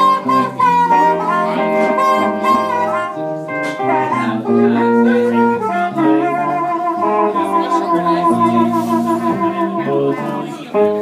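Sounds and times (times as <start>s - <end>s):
electric guitar: 0.0s - 11.0s
harmonica bending notes: 0.0s - 11.0s.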